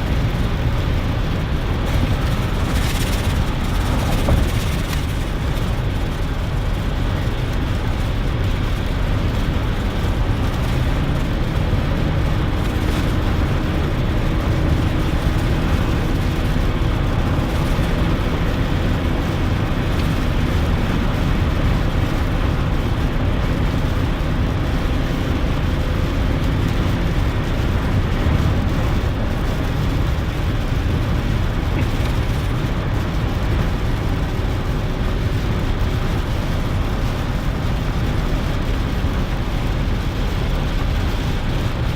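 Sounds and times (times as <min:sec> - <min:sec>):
engine and tyres droning: 0:00.0 - 0:41.9.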